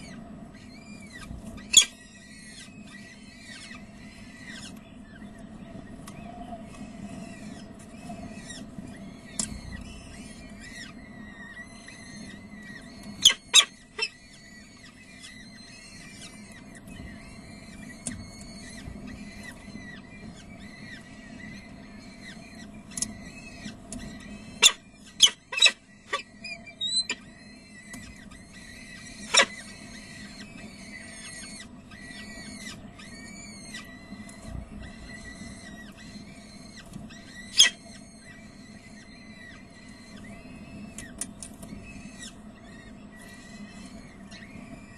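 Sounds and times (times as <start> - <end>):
falcon chicks cheeping: 0.0 - 44.9
steady low hum: 0.0 - 44.9.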